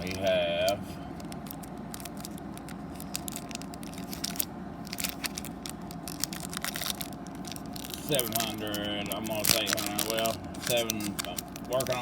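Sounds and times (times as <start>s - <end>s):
foil and plastic crinkling: 0.0s - 12.0s
steady low hum: 0.0s - 12.0s.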